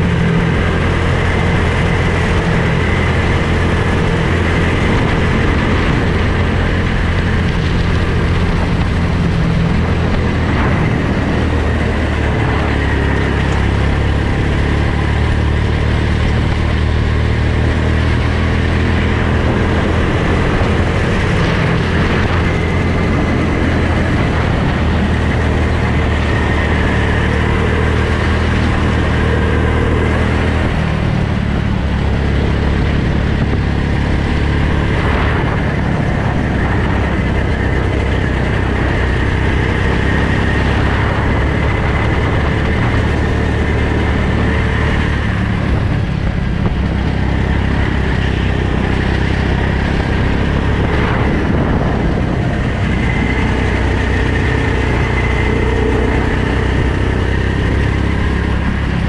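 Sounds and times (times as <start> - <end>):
go-kart engine running: 0.0 - 59.0
rushing noise: 0.0 - 59.0.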